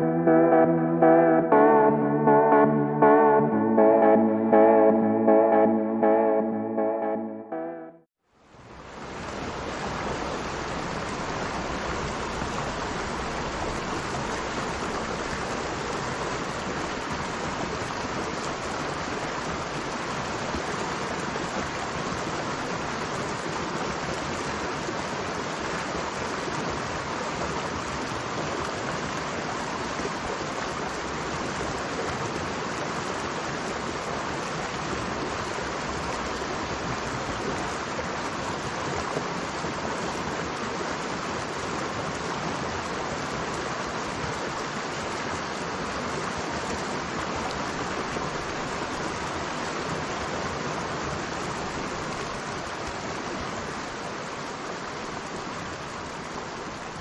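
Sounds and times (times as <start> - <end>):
river water rushing: 8.6 - 57.0.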